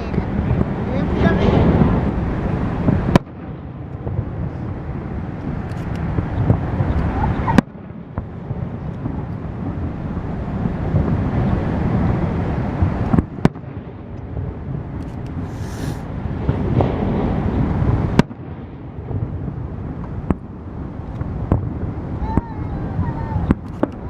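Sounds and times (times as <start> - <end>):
fireworks booming and crackling: 0.0 - 24.0.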